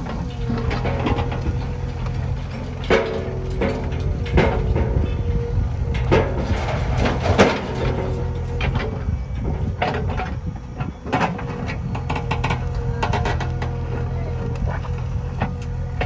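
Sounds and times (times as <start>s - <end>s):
bucket clanks and knocks: 0.0s - 13.8s
diesel engine under load: 0.0s - 16.0s.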